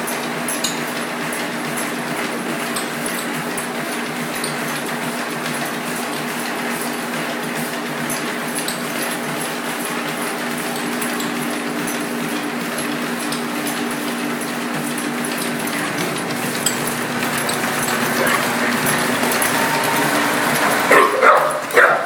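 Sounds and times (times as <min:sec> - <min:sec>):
treadmill motor hum: 0:00.0 - 0:22.0.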